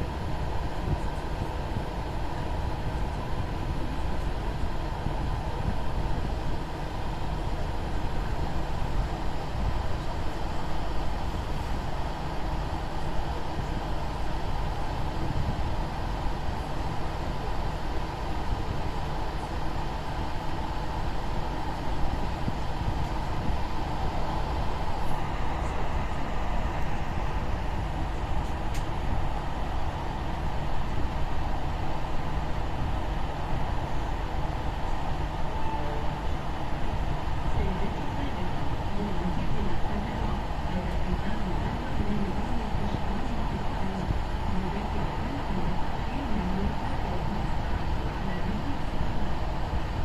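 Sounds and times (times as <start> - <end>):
moving vehicle rumble: 0.0 - 50.0.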